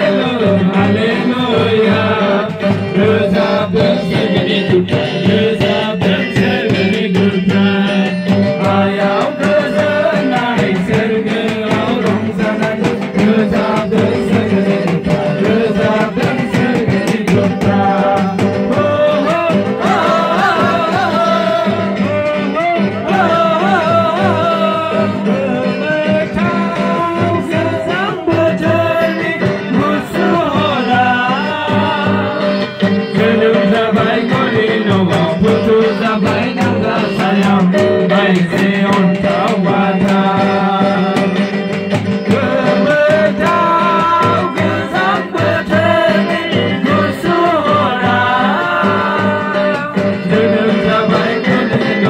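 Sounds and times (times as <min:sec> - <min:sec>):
loud music with singing: 0:00.0 - 0:52.0
steady drum beat: 0:00.0 - 0:52.0.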